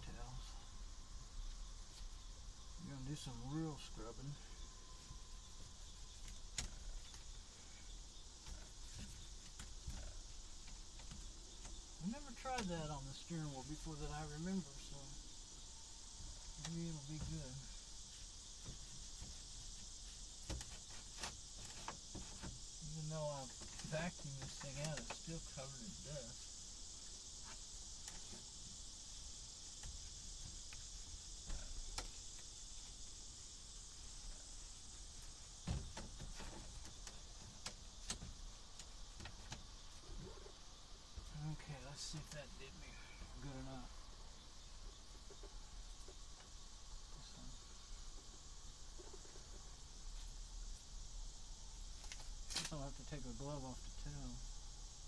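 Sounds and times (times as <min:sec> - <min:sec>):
steady high-pitched hiss: 0:00.0 - 0:55.0.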